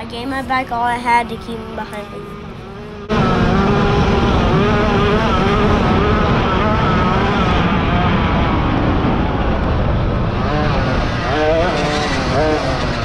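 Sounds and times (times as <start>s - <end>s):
wind rush on microphone: 0.0s - 13.0s
dirt bike engine revving: 1.1s - 13.0s.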